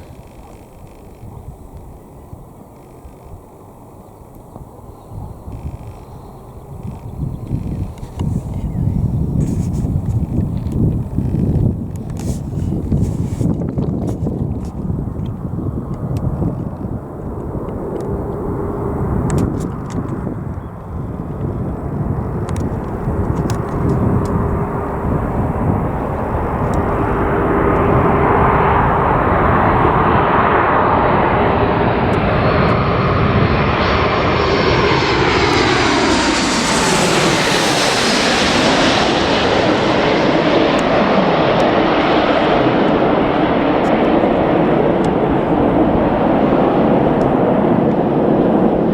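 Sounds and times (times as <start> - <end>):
airliner engine noise: 0.0 - 48.9.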